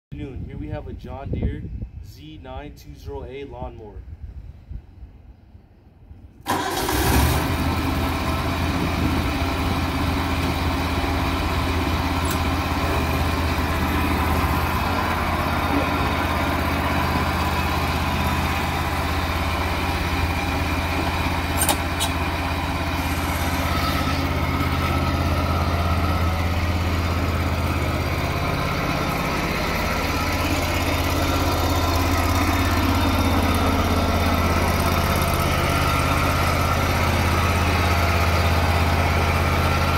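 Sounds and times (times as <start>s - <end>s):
mower engine running: 6.5s - 39.9s.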